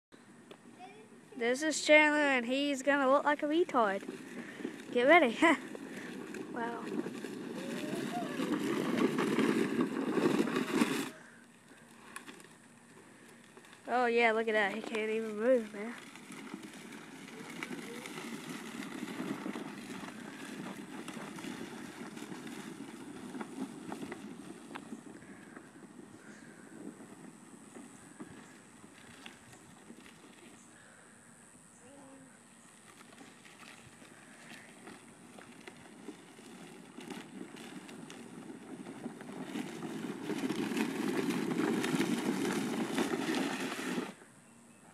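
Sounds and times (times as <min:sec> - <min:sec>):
trike wheels rolling on gravel: 0:00.2 - 0:44.9.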